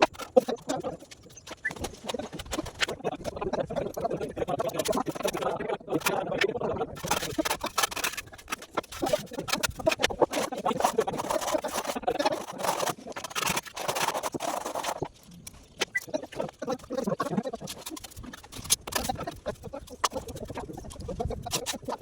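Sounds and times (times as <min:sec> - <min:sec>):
hand tools scraping and tapping: 0:00.0 - 0:05.4, 0:07.0 - 0:22.0.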